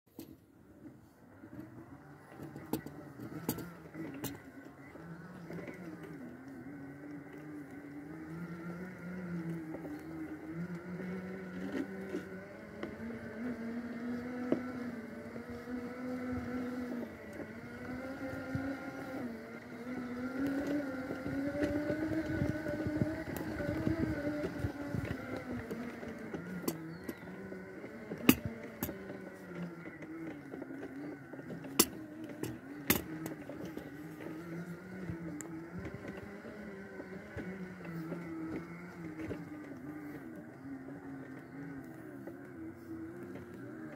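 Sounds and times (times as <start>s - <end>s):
electric wheelchair motors whining: 0.1s - 43.9s.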